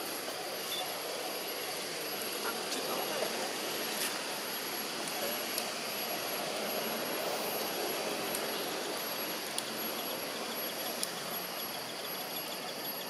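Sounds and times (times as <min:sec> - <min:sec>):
high-pitched insect whine: 0:00.0 - 0:13.0.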